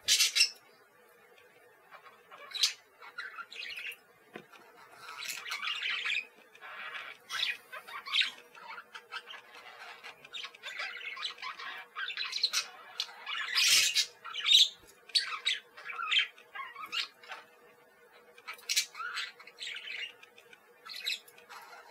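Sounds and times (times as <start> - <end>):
faint steady hum: 0.0 - 21.9
parakeets chattering and squawking: 0.0 - 21.9.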